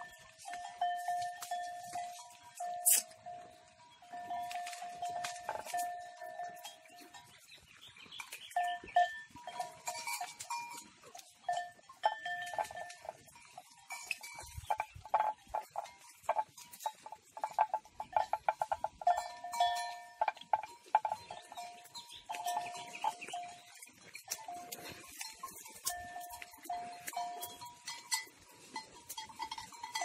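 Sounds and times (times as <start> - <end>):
livestock bell clanking: 0.0 - 30.0.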